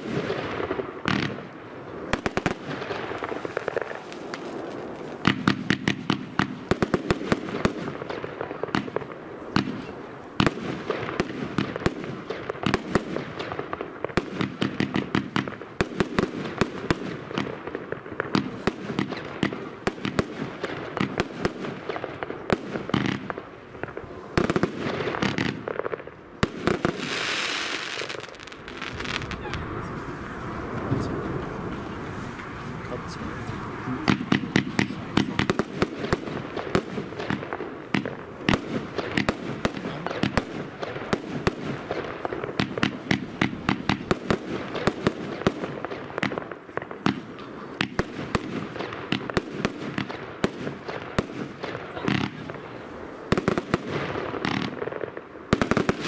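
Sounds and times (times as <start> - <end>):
firework shots and shell bursts: 0.0 - 1.5, 5.2 - 29.4, 34.0 - 52.7, 53.3 - 56.0
firework crackle: 0.0 - 56.0.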